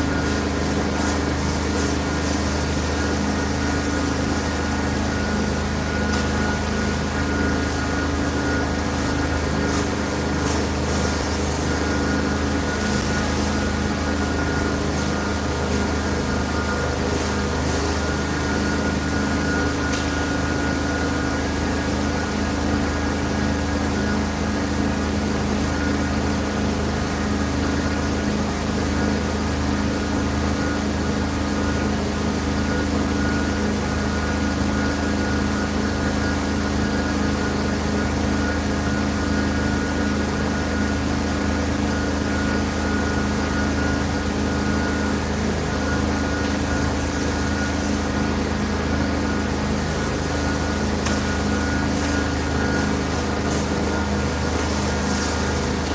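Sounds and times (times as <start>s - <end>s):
carpet-cleaning machine engine drone: 0.0s - 55.9s.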